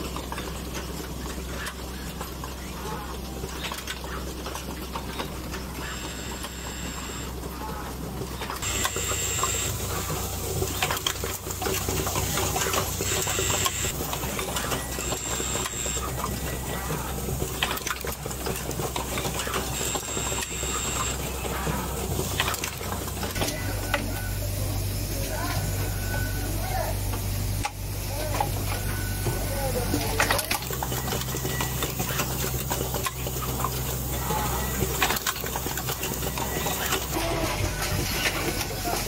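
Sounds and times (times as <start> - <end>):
machine humming: 0.0 - 39.0.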